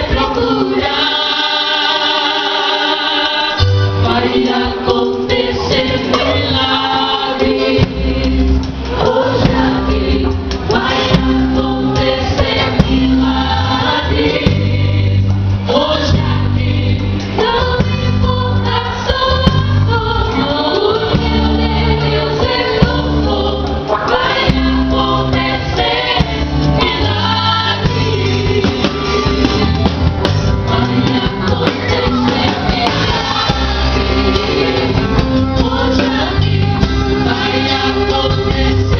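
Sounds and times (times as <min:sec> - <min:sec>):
choir singing gospel music: 0:00.0 - 0:38.9
steady bass line: 0:03.6 - 0:38.9.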